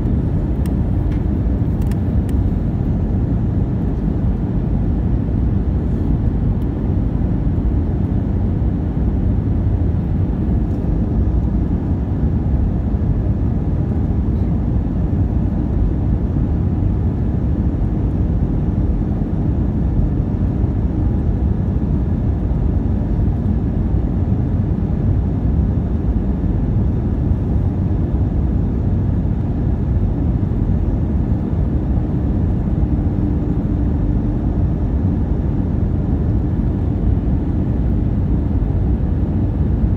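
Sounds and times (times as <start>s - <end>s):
airplane cabin engine rumble: 0.0s - 39.9s
faint steady hum: 0.0s - 39.9s.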